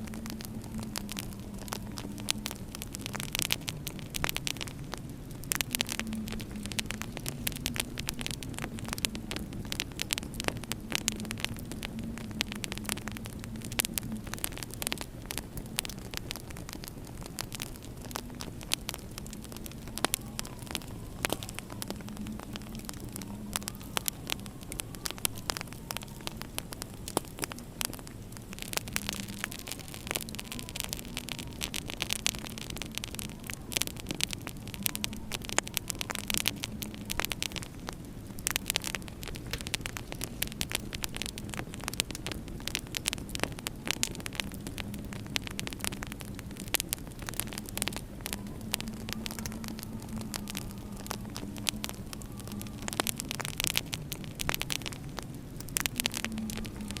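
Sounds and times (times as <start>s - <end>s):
low steady hum: 0.0s - 57.0s
wood fire crackling and popping: 0.0s - 57.0s.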